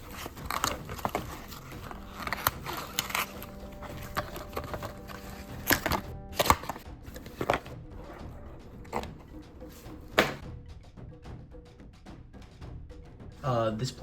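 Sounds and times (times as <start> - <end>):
faint music: 0.0 - 14.0.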